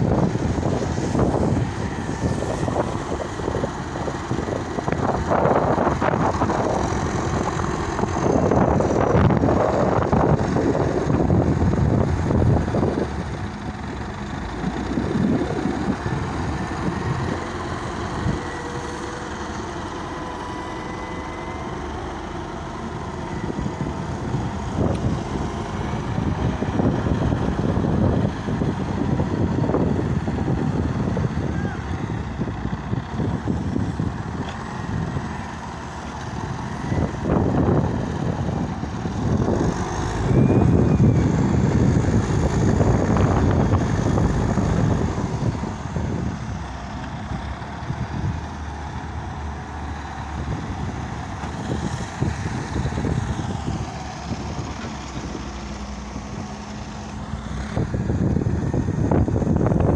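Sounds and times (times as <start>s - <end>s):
faint engine whine: 0.0s - 59.9s
wheel loader diesel engine: 0.0s - 59.9s.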